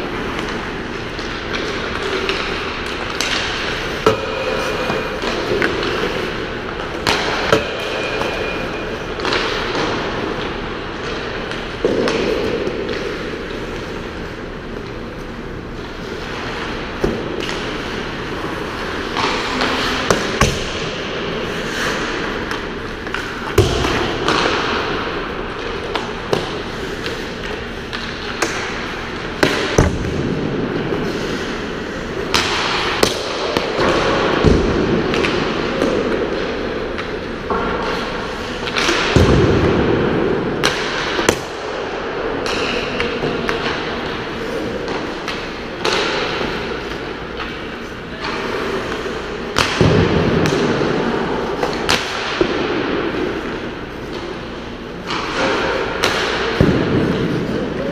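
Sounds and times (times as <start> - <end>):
steady background noise: 0.0 - 57.9
pucks and sticks knocking: 0.2 - 31.5, 32.2 - 54.4, 55.0 - 57.9.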